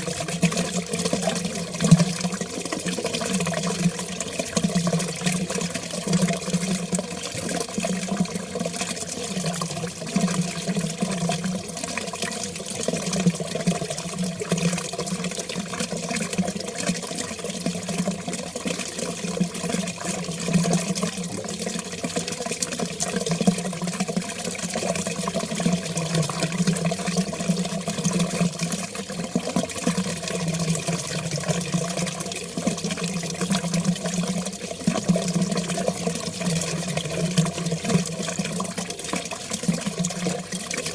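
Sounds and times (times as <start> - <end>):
water flowing: 0.0 - 40.9.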